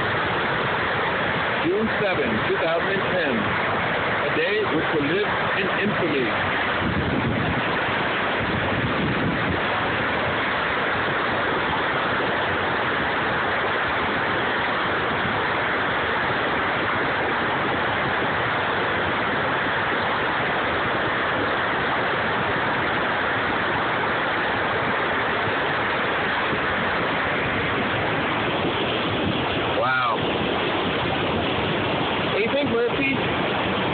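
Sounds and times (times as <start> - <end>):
fast whitewater rushing: 0.0 - 33.9.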